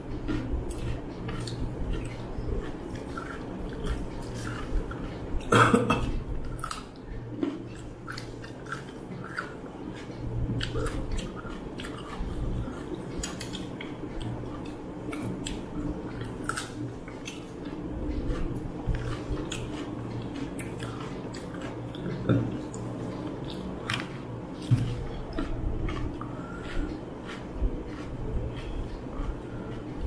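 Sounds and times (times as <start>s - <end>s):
fingers mixing rice: 0.0s - 5.5s, 6.1s - 30.0s
chewing and biting: 0.0s - 30.0s.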